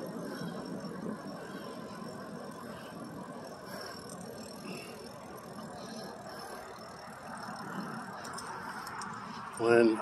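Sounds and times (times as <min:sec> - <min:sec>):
wheel noise on asphalt: 0:00.0 - 0:10.0.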